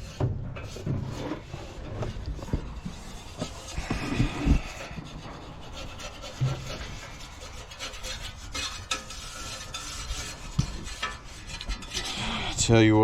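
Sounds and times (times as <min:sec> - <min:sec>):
tool scraping concrete: 0:00.0 - 0:13.0.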